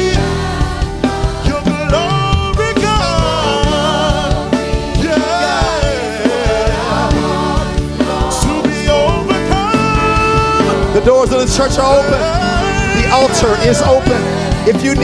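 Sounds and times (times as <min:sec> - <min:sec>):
band with steady drum beat: 0:00.0 - 0:15.0.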